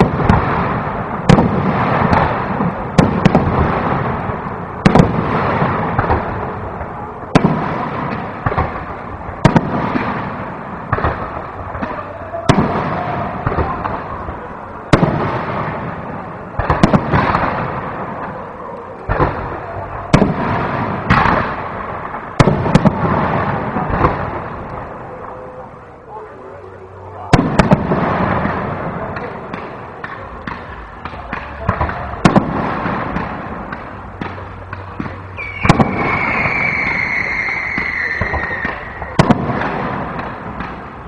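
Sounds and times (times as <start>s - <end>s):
firework shells bursting: 0.0s - 25.0s, 27.3s - 41.0s.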